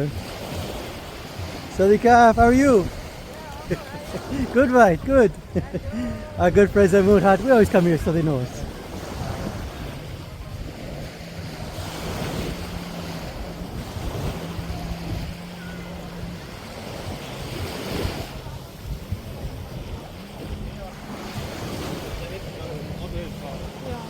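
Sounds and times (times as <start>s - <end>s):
waves washing onto beach: 0.0s - 24.0s
wind buffeting microphone: 0.0s - 24.0s.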